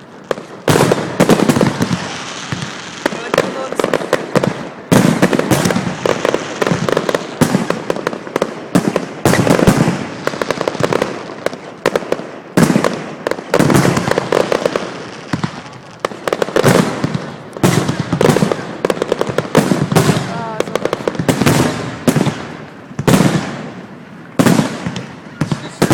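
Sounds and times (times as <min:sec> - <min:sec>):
fireworks bangs: 0:00.0 - 0:25.9
fireworks crackling: 0:00.0 - 0:25.9.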